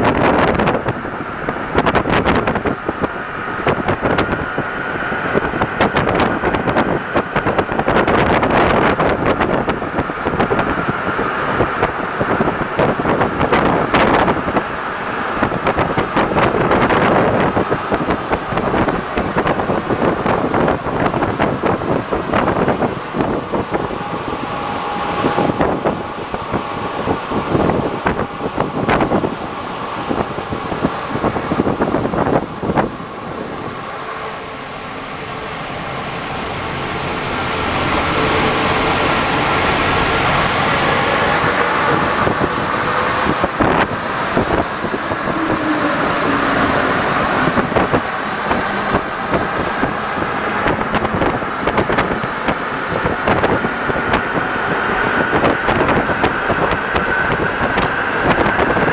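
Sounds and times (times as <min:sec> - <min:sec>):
metro train running: 0:00.0 - 0:58.9
thin whine: 0:00.0 - 0:58.9.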